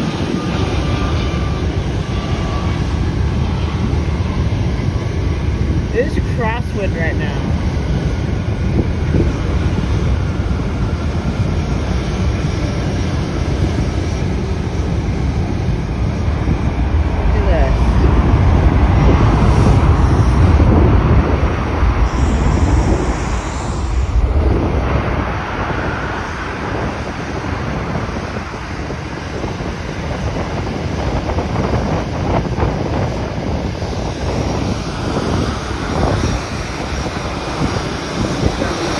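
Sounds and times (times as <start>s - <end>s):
jet engines rumbling: 0.0s - 38.9s
wind on microphone: 0.0s - 38.9s.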